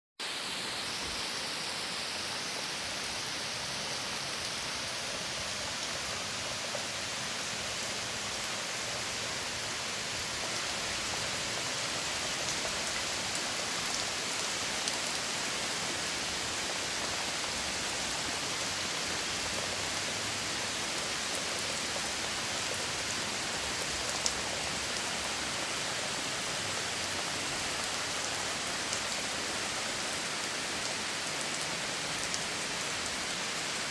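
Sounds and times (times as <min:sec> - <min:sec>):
steady rain: 0:00.2 - 0:33.9.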